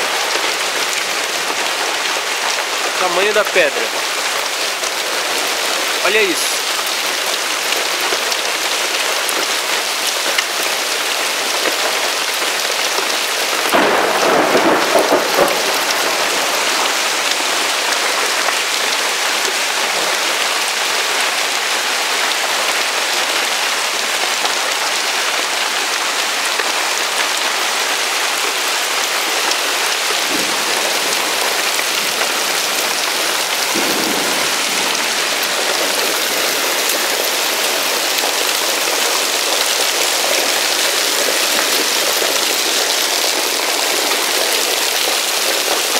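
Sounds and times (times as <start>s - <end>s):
heavy hail and rain falling: 0.0s - 45.9s.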